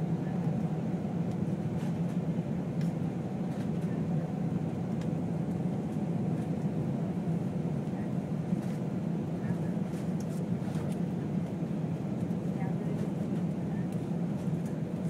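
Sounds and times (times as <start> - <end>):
aircraft cabin drone: 0.0 - 15.0.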